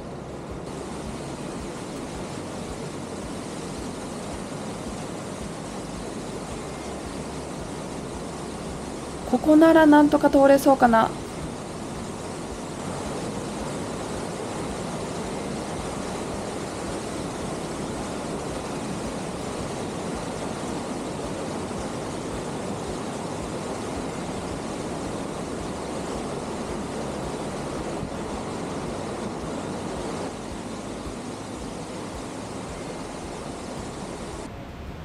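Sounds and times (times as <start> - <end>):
rushing mountain stream: 0.0 - 35.0.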